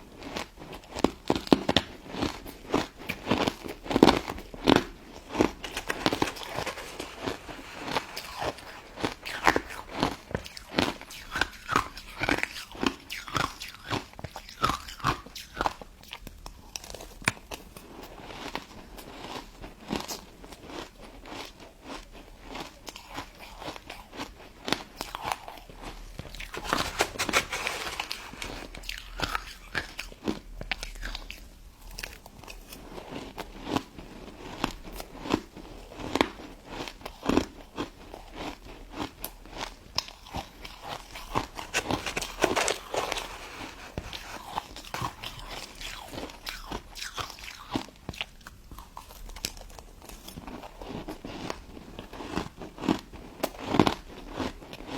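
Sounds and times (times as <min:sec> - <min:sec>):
crunching and chewing ice dessert: 0:00.0 - 0:54.9.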